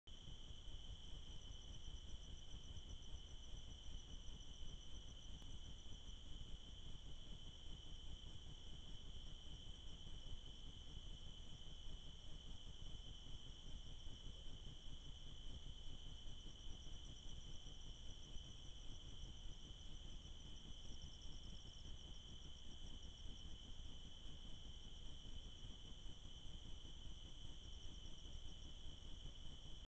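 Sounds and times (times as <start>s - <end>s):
insect steady high trill: 0.1s - 29.9s
pulsing higher insect trill: 0.1s - 29.9s.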